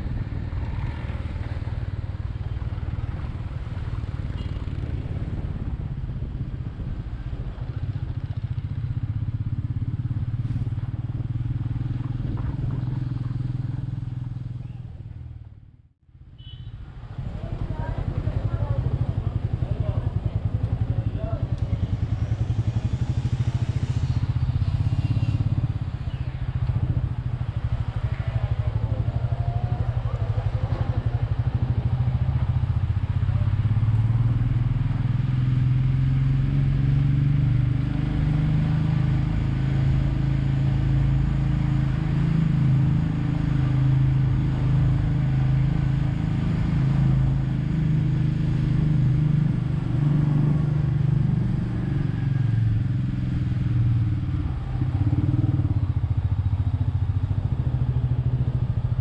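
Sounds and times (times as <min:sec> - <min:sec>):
motorcycle engine running: 0:00.0 - 0:15.8, 0:16.4 - 0:59.0
road and wind noise: 0:00.0 - 0:59.0.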